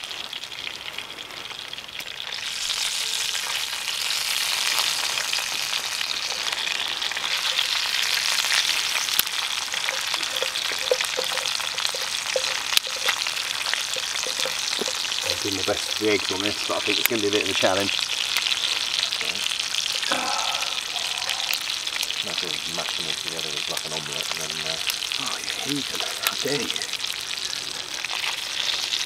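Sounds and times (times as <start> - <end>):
food sizzling in a frying pan: 0.0 - 29.0
sharp pops and crackles: 0.0 - 29.0.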